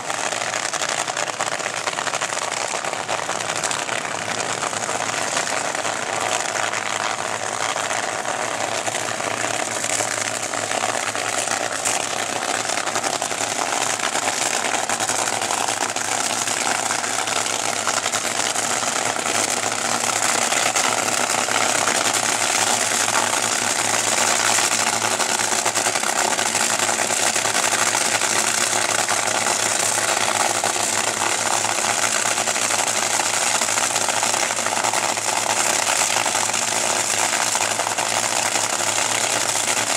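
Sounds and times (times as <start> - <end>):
dragster engine idling: 0.0 - 39.9.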